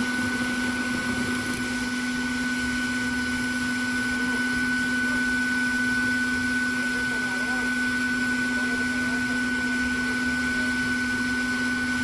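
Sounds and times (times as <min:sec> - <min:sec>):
vacuum running: 0:00.0 - 0:12.0.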